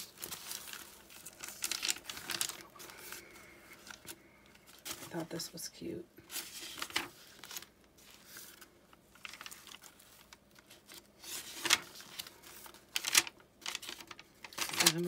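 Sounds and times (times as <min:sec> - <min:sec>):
paper pages rustling: 0:00.0 - 0:05.4, 0:06.2 - 0:15.0.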